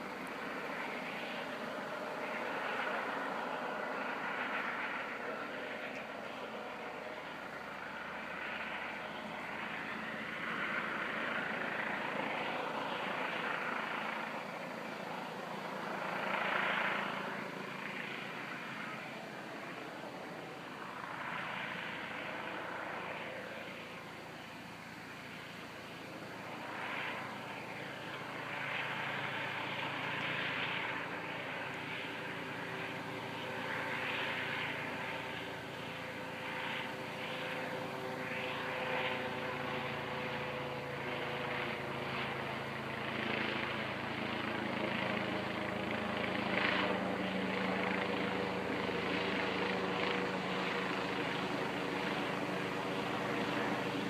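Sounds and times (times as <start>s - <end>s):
helicopter rotor drone: 0.0s - 54.0s.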